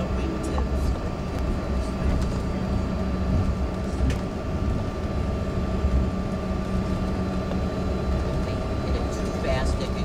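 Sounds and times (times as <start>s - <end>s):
constant cabin hum: 0.0s - 10.0s
jet engines rumbling: 0.0s - 10.0s.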